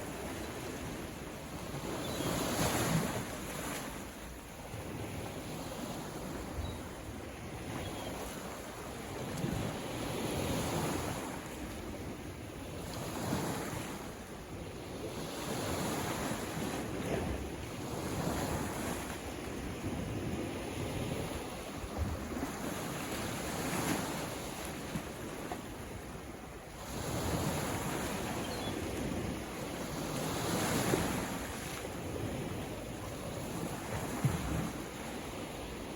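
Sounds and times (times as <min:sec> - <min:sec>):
ocean waves breaking: 0:00.0 - 0:14.3, 0:14.9 - 0:35.9.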